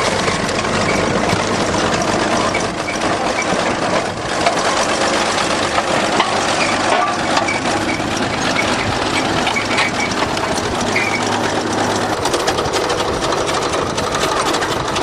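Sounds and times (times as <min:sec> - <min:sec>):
engine idling with clatter: 0:00.0 - 0:15.0.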